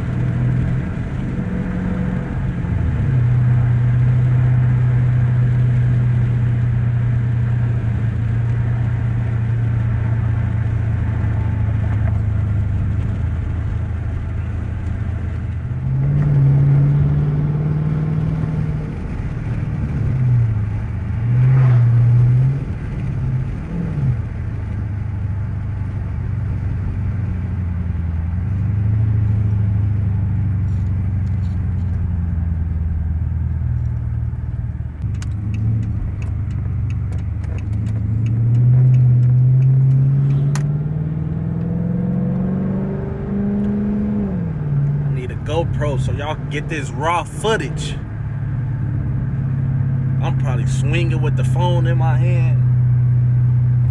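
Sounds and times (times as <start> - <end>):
car engine and exhaust: 0.0 - 53.9.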